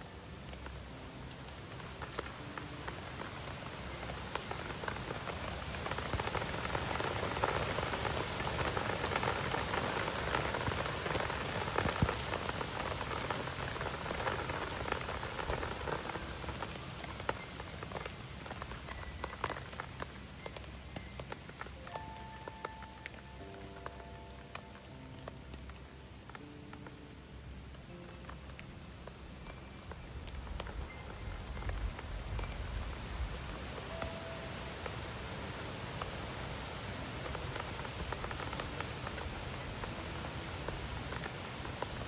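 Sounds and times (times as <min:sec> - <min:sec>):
raindrop ticks: 0:00.0 - 0:42.0
steady rain: 0:00.0 - 0:42.0.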